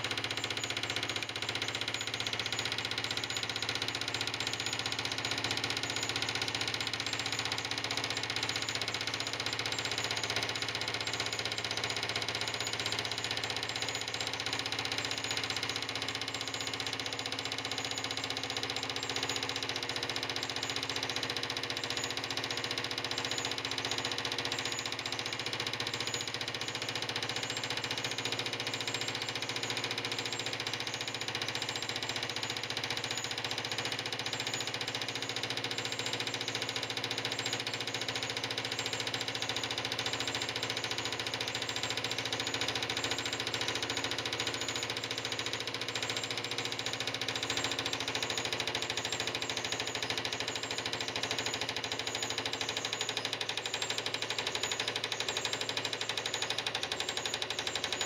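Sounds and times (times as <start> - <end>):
toy mechanism humming: 0.0 - 58.0.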